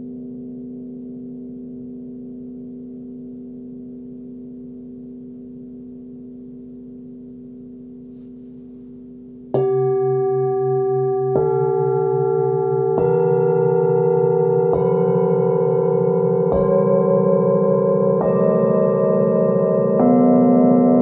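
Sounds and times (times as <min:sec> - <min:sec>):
singing bowl humming: 0:00.0 - 0:21.0.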